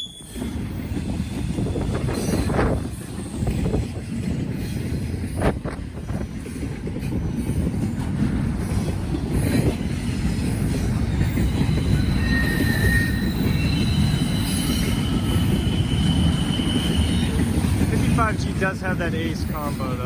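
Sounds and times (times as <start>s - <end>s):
train wheels squealing: 0.0s - 18.5s
freight train rumbling past: 0.0s - 20.0s.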